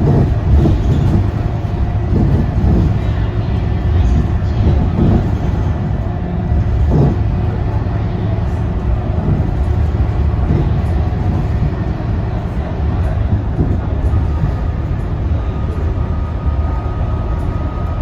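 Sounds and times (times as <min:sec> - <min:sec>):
bus diesel engine rumble: 0:00.0 - 0:18.0.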